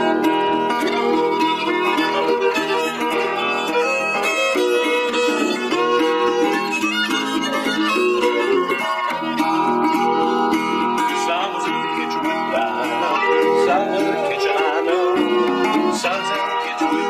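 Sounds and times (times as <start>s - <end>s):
fiddle melody: 0.0s - 17.0s
plucked string accompaniment: 0.0s - 17.0s.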